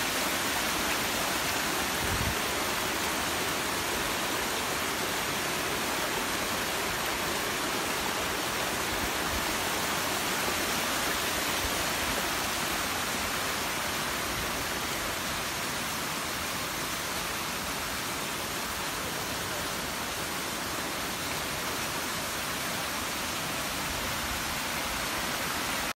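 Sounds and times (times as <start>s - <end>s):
rushing waterfall: 0.0s - 26.0s.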